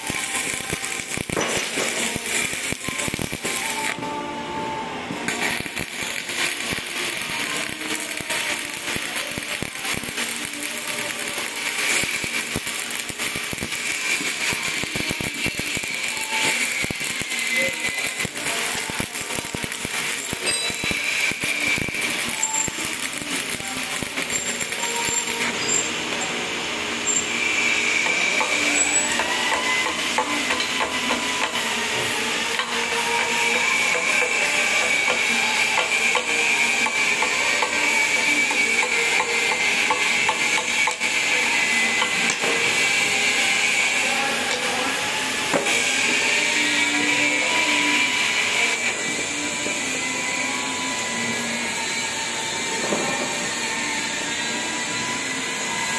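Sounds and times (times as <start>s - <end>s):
welding arc crackling: 0.0s - 4.1s, 5.2s - 50.0s.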